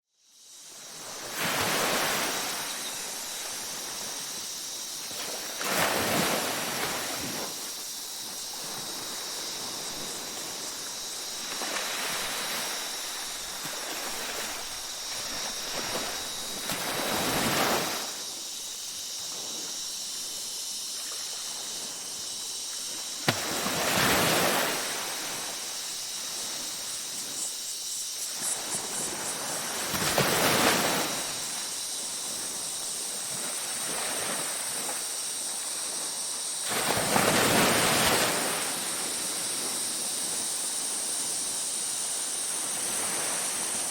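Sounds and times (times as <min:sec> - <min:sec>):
ocean waves breaking on beach: 0:00.8 - 0:43.9.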